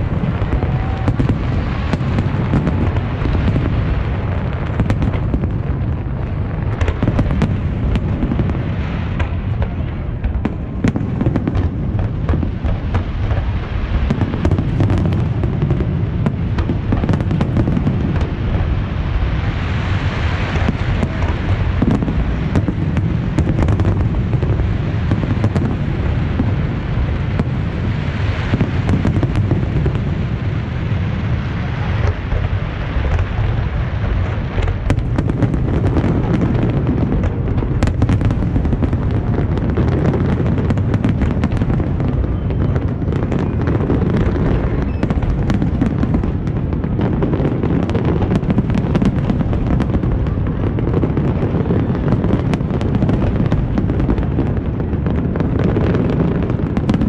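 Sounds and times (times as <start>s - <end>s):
firework cracks: 0.0s - 57.0s.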